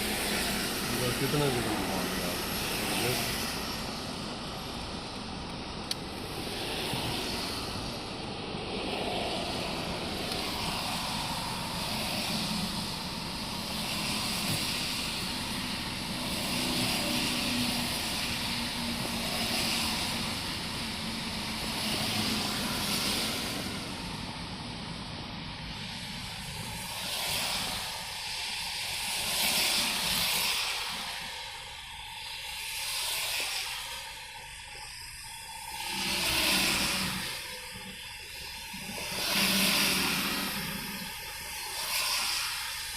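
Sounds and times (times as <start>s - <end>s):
tyres hissing through water: 0.0s - 42.9s.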